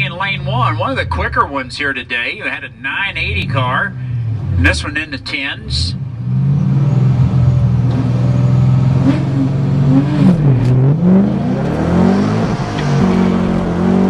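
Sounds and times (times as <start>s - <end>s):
car engine from inside cabin: 0.0s - 14.0s.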